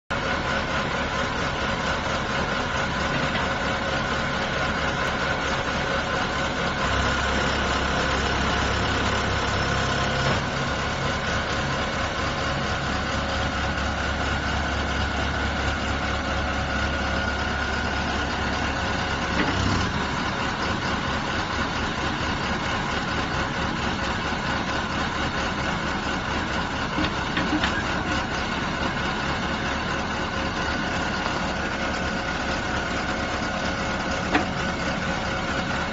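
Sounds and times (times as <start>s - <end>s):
diesel engine rumbling: 0.1s - 35.9s.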